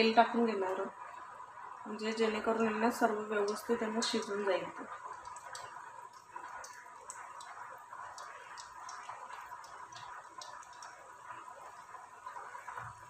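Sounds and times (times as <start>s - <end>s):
oil sizzling with pops: 0.0s - 13.0s.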